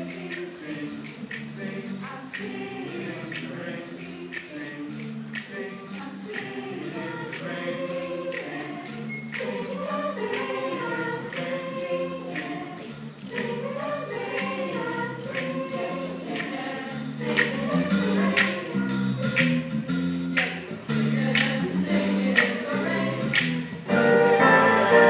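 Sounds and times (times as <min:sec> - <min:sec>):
choir singing in parts: 0:00.0 - 0:25.0.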